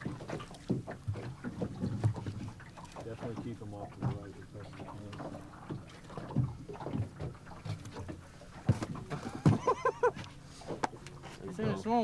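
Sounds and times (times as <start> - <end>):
knocks and thumps on boat deck: 0.0 - 12.0.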